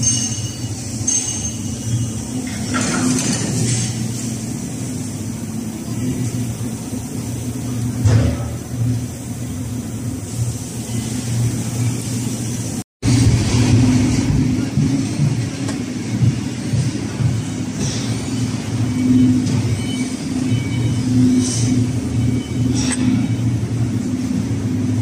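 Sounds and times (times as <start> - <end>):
machinery drone: 0.0 - 25.0.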